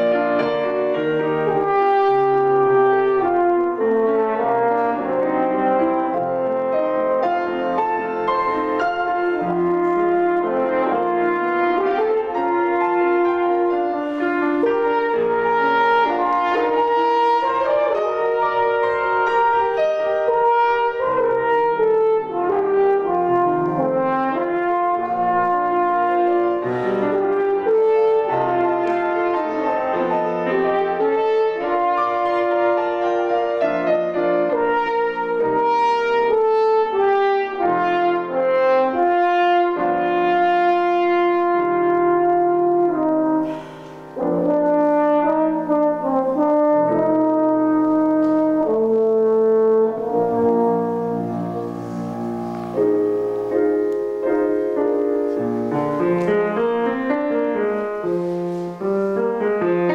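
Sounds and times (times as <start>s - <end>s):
french horn melody: 0.0s - 59.9s
piano accompaniment: 0.0s - 59.9s.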